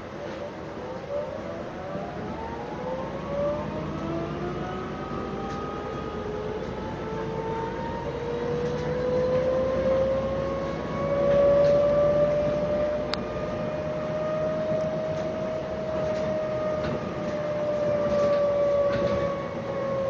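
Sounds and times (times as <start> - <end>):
bus electric drive whine: 0.0 - 20.0
bus ride rumble: 0.0 - 20.0.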